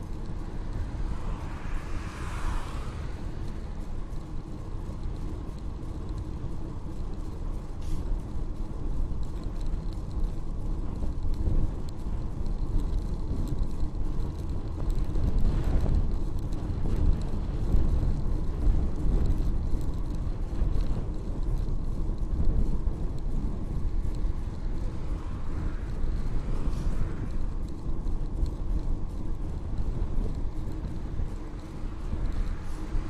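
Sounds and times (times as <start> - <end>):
wind and tyre noise: 0.0 - 33.0.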